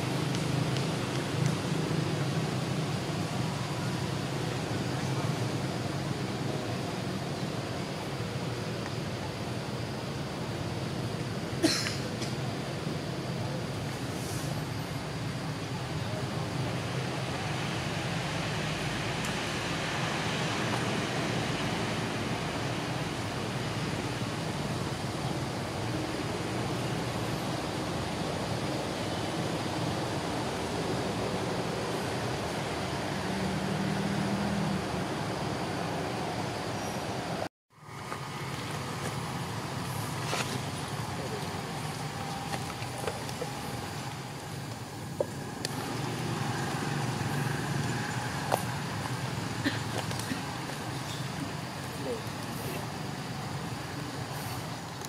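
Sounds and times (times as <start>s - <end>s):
outdoor background hiss: 0.0s - 55.0s.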